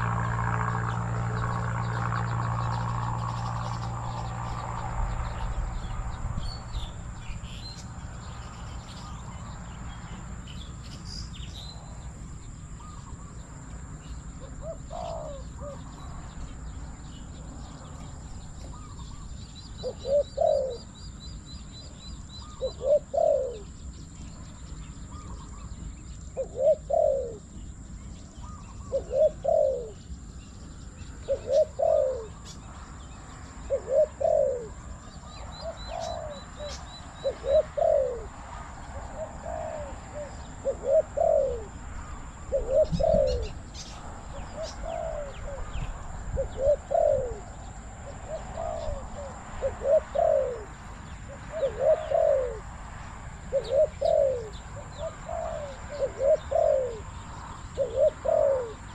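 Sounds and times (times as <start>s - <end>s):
doves cooing: 0.0s - 6.1s, 6.8s - 21.4s, 22.2s - 58.9s
small birds chirping: 0.0s - 58.9s.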